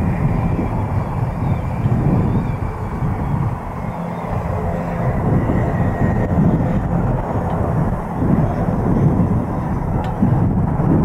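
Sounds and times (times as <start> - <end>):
jet engines running: 0.0 - 11.0
wind buffeting microphone: 0.0 - 11.0.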